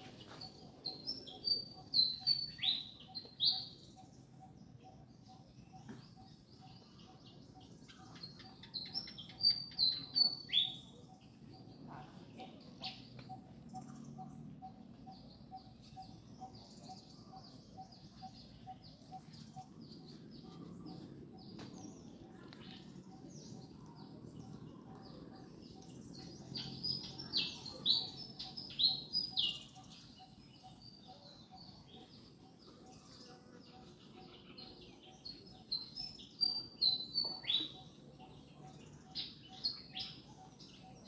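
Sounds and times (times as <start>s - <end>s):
birds chirping and calling: 0.0s - 41.0s.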